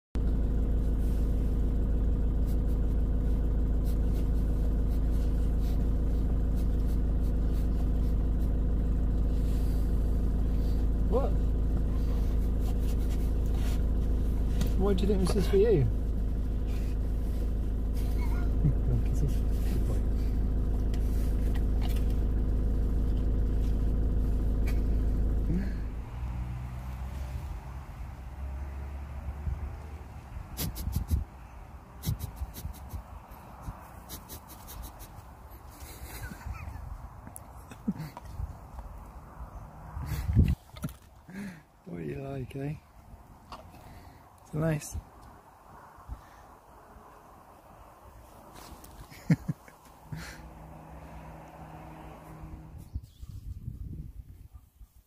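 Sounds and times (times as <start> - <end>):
van engine idling: 0.2 - 55.0.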